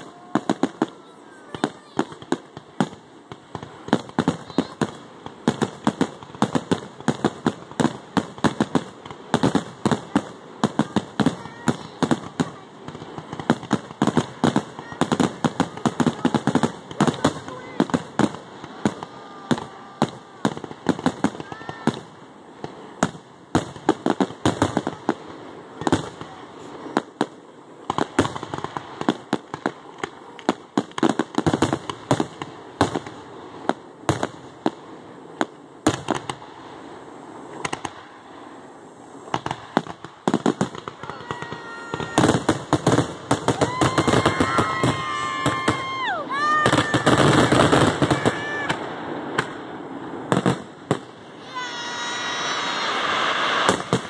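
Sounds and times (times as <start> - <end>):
fireworks bangs and crackles: 0.0 - 54.0
fireworks whistling: 0.0 - 54.0.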